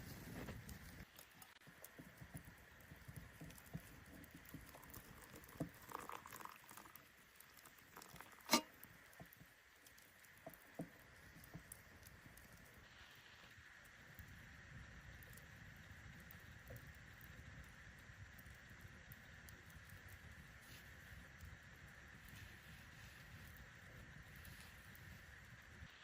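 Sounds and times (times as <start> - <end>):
wood fire crackling and popping: 0.0 - 25.9
faint steady hiss: 0.0 - 26.0.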